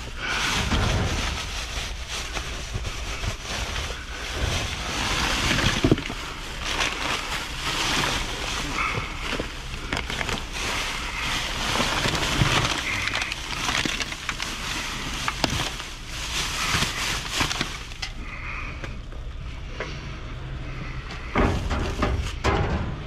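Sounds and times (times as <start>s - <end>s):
plastic bags rustling: 0.0s - 18.8s
steady low hum: 0.0s - 23.0s.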